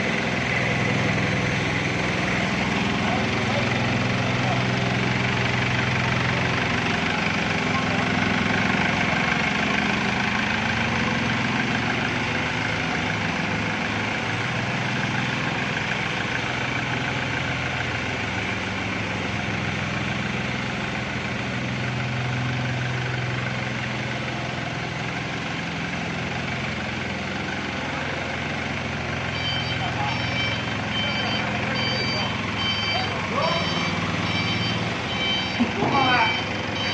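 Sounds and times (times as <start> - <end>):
excavator engine running: 0.0 - 36.9.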